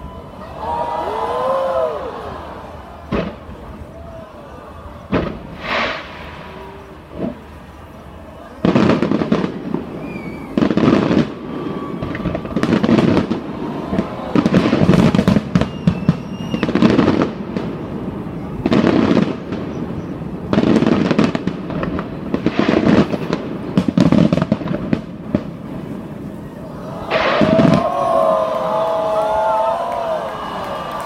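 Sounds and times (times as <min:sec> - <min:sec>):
fireworks crackling: 0:00.0 - 0:31.0
fireworks booming: 0:01.1 - 0:04.2, 0:04.8 - 0:28.5.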